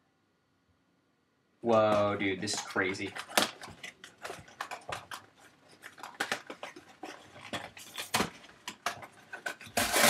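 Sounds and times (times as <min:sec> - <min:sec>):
packaging being handled: 0:01.7 - 0:10.0.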